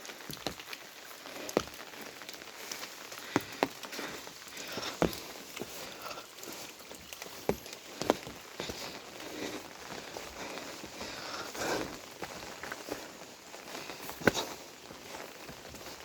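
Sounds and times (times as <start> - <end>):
footsteps on a path: 0.0 - 16.0.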